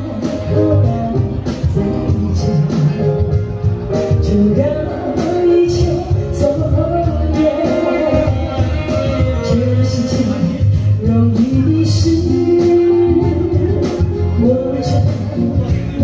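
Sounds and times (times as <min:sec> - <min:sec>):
live band music: 0:00.0 - 0:16.0
woman singing into a microphone: 0:00.0 - 0:16.0.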